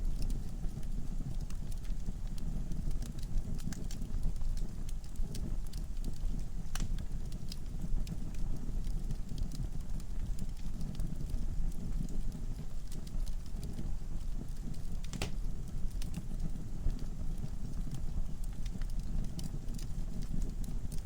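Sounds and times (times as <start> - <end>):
fire crackles and pops: 0.0 - 21.0
low rumble of flames: 0.0 - 21.0.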